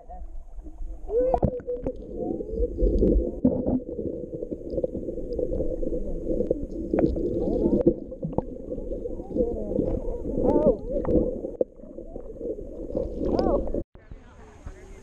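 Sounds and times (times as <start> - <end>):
underwater churning rumble: 0.0 - 13.9.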